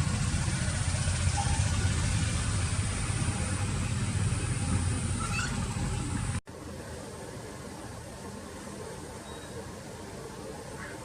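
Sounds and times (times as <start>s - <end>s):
low background rumble: 0.0s - 9.0s.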